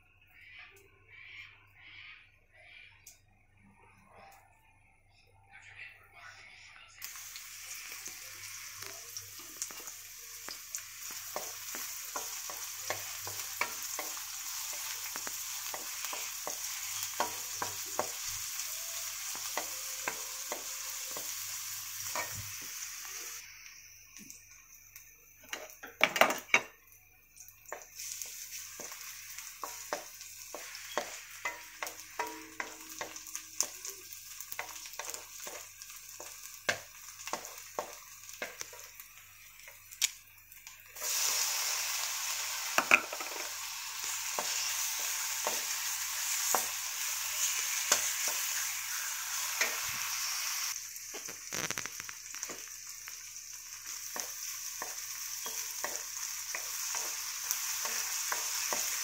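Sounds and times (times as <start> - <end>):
onions sizzling in hot oil: 7.0 - 59.0.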